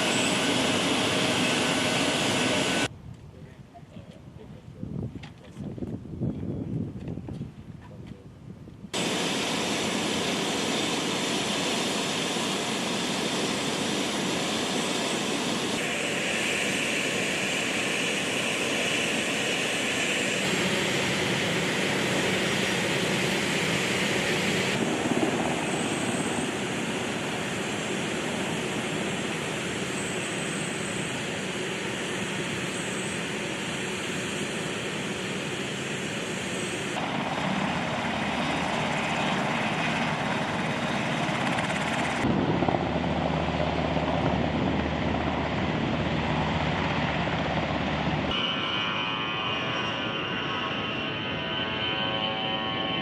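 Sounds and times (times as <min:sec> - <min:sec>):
jet engines running: 0:00.0 - 0:02.9, 0:09.0 - 0:53.0.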